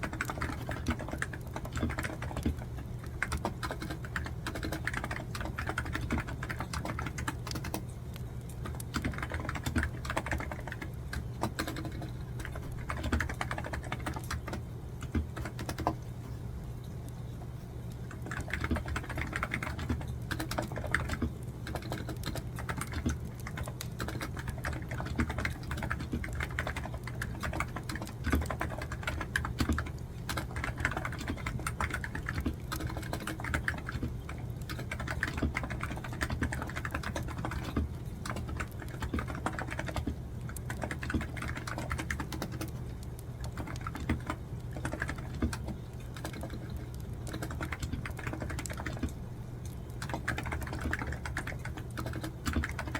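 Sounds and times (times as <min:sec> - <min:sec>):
fast typing on keyboard: 0:00.0 - 0:16.0, 0:18.0 - 0:52.9
steady low hum: 0:00.0 - 0:52.9.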